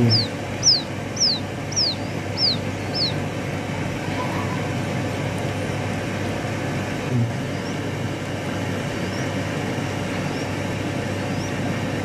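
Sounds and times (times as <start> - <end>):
quail chicks peeping: 0.0 - 5.2, 7.4 - 12.0
mechanical hum and hiss: 0.0 - 12.0.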